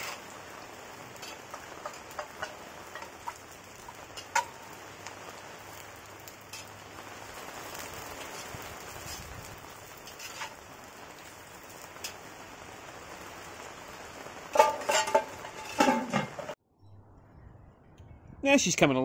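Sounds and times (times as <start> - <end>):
chips sizzling in hot oil: 0.0 - 16.6.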